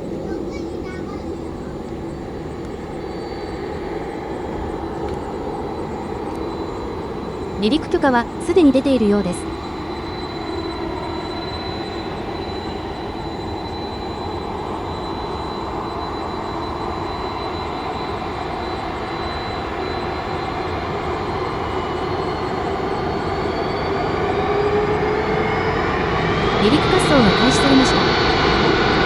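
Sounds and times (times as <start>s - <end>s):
jet engines whining and rumbling: 0.0s - 29.0s.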